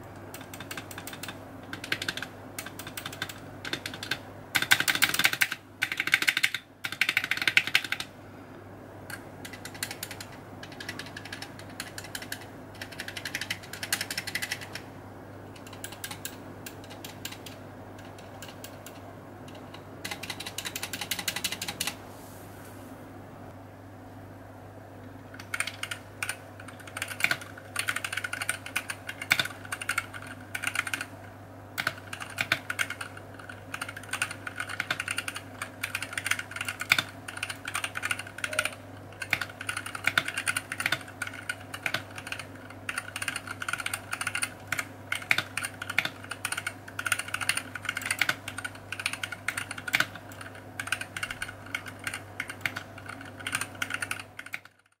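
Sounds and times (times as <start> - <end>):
mechanical keyboard typing: 0.0 - 8.1, 9.1 - 14.9, 15.5 - 22.0, 25.3 - 31.2, 31.8 - 55.0.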